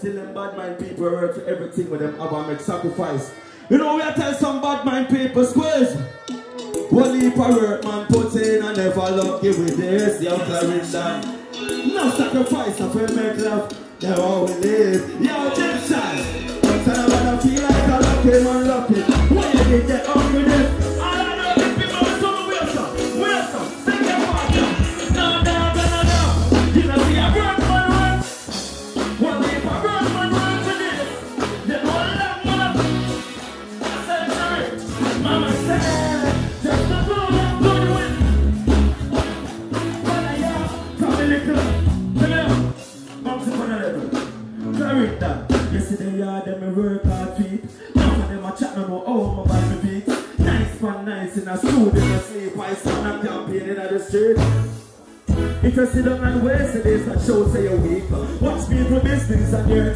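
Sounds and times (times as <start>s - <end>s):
live music with bass-heavy beat: 3.3s - 59.9s
man singing into a microphone: 6.8s - 28.4s, 29.2s - 33.0s, 33.8s - 38.5s, 39.8s - 54.8s, 55.4s - 59.9s.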